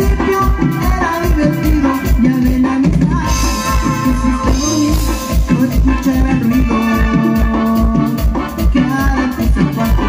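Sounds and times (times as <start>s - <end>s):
bass: 0.0s - 10.0s
drums with a steady beat: 0.0s - 10.0s
electronic keyboard melody: 0.0s - 10.0s.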